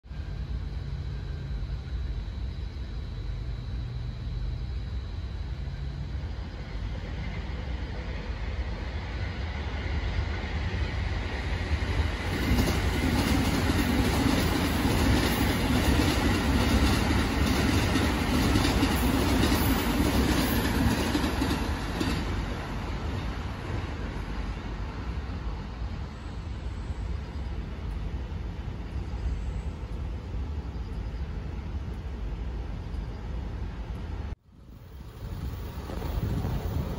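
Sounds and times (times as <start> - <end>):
electric train rumbling past: 0.0 - 36.9.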